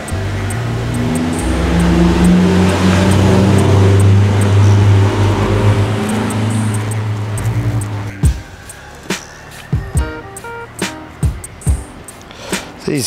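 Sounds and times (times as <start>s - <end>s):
low bass notes: 0.0s - 12.1s
ticking beat: 0.0s - 13.0s.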